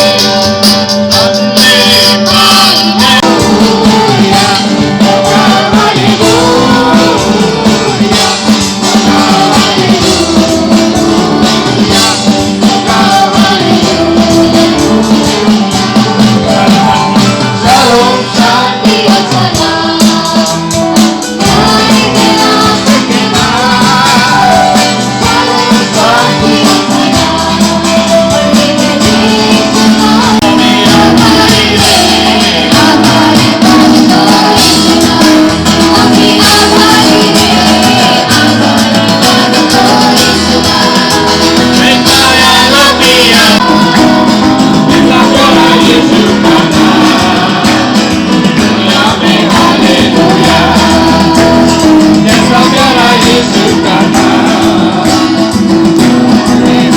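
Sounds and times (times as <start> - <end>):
devotional song with singing: 0.0 - 56.9.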